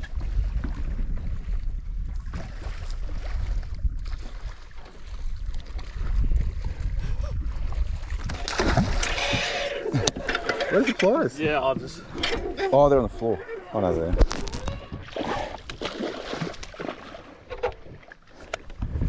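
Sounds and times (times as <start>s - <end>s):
boat low rumble: 0.0s - 15.8s.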